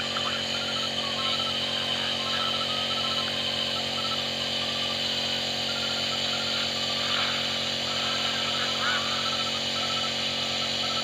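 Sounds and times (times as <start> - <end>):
nebulizer compressor buzzing hum: 0.0 - 11.0.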